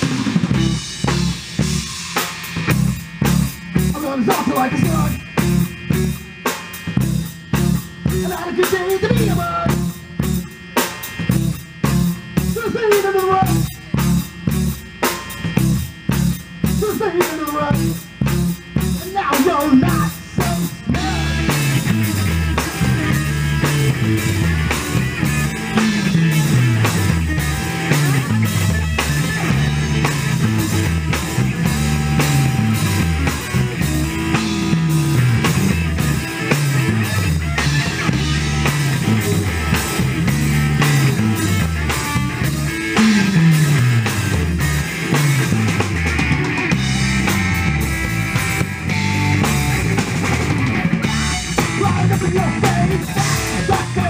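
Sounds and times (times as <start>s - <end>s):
drum kit: 0.0s - 54.0s
electric guitar: 0.0s - 54.0s
sliding bass line: 0.0s - 54.0s.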